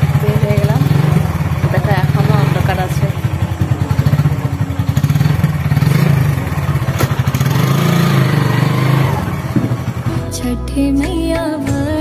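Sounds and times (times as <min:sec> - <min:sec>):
motorbike engine idling: 0:00.0 - 0:11.2.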